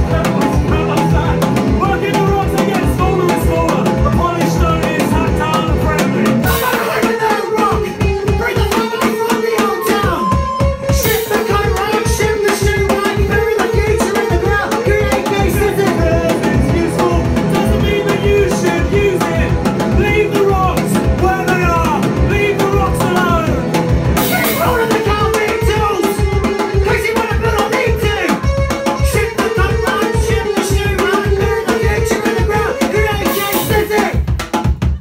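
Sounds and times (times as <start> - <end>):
drum kit beat: 0.0 - 35.0
electric guitar: 0.0 - 35.0
person singing: 0.0 - 35.0.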